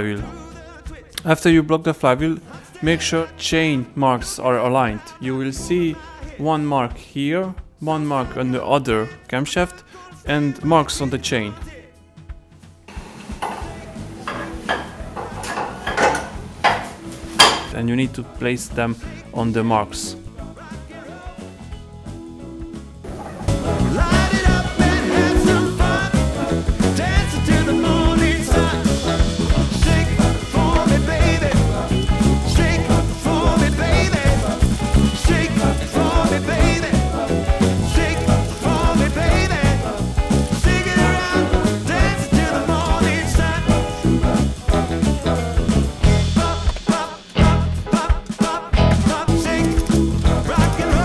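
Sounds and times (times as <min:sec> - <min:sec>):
upbeat swing ska music with singing: 0:00.0 - 0:51.0.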